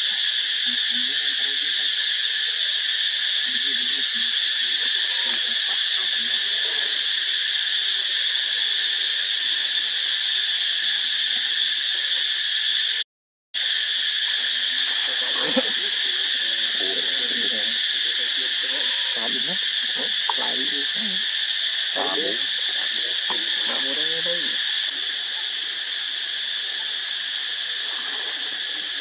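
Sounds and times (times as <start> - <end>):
high insect chorus droning: 0.0 - 13.0, 13.6 - 29.0.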